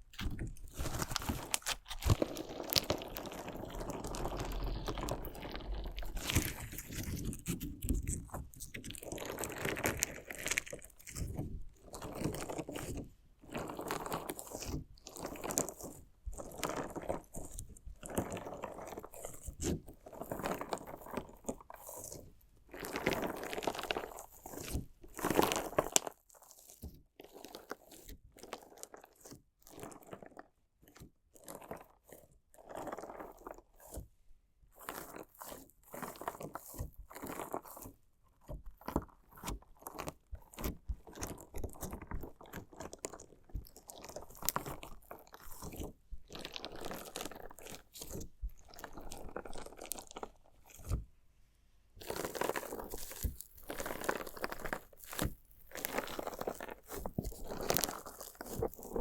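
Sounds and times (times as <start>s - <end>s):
crunchy slime squelches: 0.0s - 51.1s, 51.9s - 59.0s.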